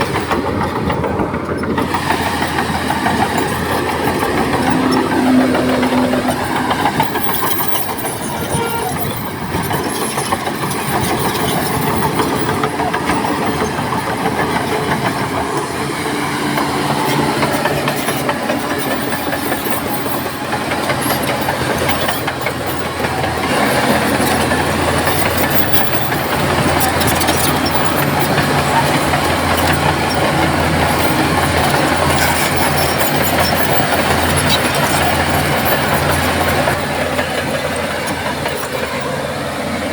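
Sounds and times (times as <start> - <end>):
bulldozer diesel engine: 0.0 - 39.9
steel tracks clattering: 0.0 - 39.9.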